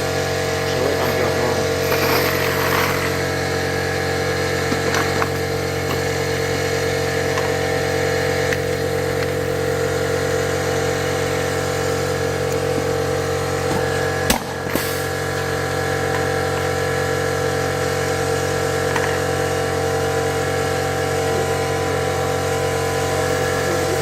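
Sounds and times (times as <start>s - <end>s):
workshop machinery drone: 0.0s - 24.0s.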